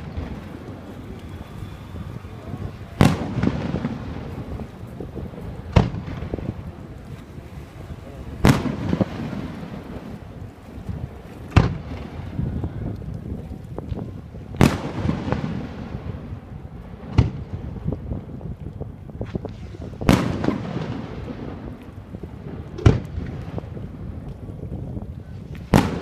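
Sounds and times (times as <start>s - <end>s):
firework crackles: 0.0s - 26.0s.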